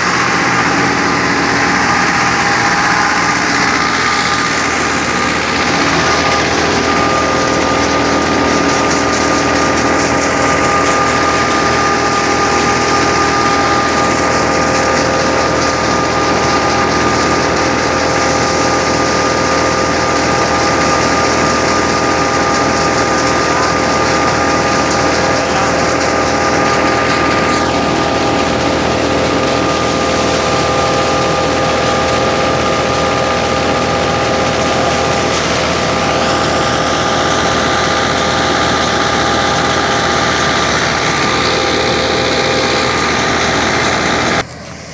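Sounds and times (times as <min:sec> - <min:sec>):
thresher whine and clatter: 0:00.0 - 0:44.9
tractor engine running: 0:00.0 - 0:44.9.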